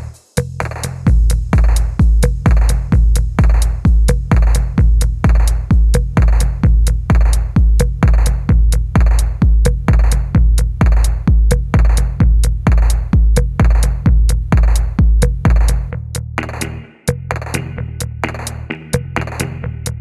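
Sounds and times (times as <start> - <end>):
electronic music with drum-machine beat: 0.0 - 20.0.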